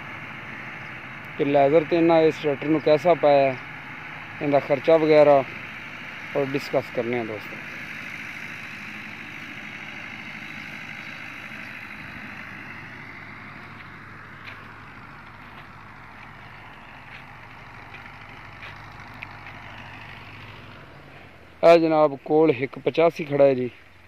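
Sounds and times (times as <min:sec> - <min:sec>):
tractor diesel engine hum: 0:00.0 - 0:24.0.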